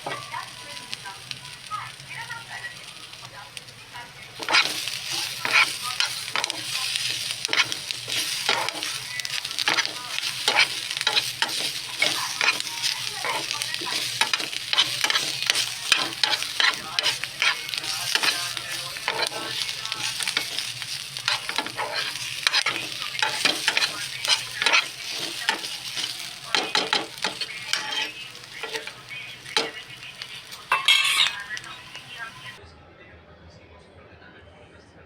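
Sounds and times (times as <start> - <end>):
spatula scraping pan: 0.0 - 0.9, 4.4 - 32.6
potatoes sizzling in oil: 0.0 - 32.6.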